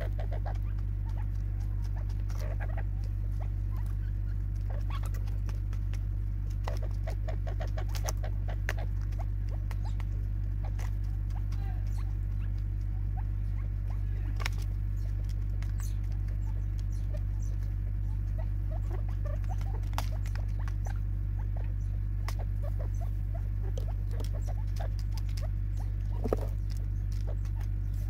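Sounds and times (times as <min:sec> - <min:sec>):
birds pecking plastic feeder: 0:00.0 - 0:28.0
steady low hum: 0:00.0 - 0:28.0.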